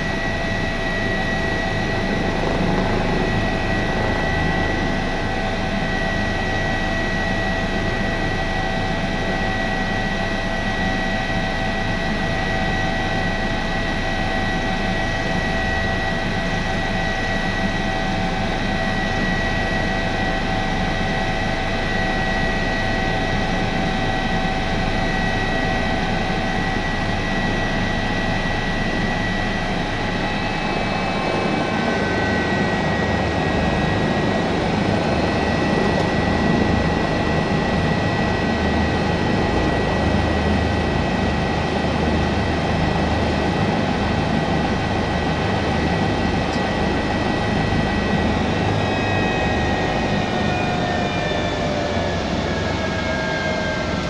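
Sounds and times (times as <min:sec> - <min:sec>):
helicopter turbine whine: 0:00.0 - 0:54.0.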